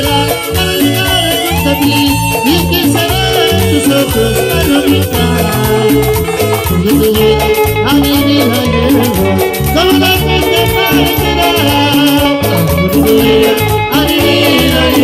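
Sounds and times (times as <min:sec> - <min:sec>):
cumbia band music: 0:00.0 - 0:15.0.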